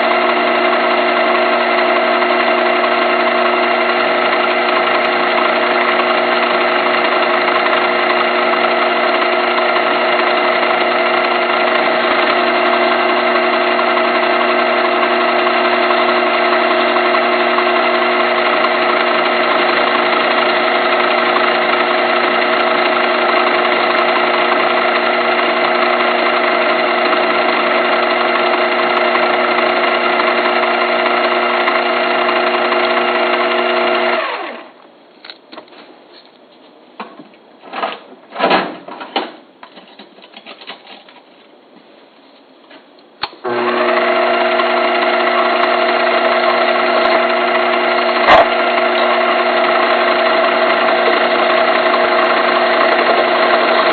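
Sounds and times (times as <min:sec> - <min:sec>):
metal lathe running: 0:00.0 - 0:34.7, 0:43.4 - 0:53.9.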